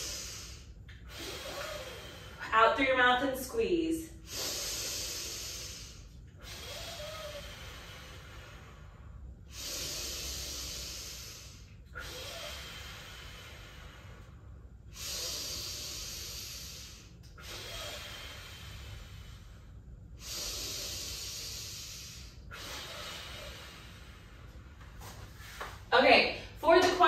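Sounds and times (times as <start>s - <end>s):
woman breathing deeply: 0.0s - 26.7s.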